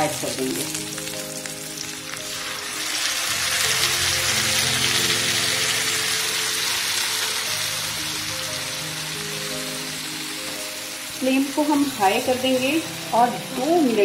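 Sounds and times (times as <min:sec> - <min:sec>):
background music: 0:00.0 - 0:14.0
chicken sizzling in hot oil: 0:00.0 - 0:14.0.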